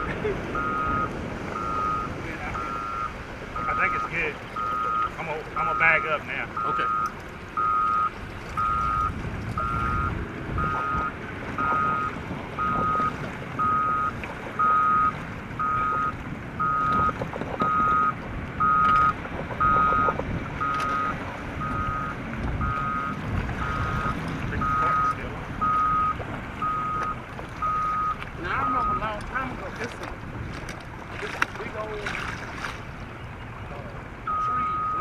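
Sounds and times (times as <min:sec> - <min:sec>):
truck reversing alarm beeping: 0:00.0 - 0:29.2, 0:34.2 - 0:35.0
low rumbling: 0:00.0 - 0:35.0.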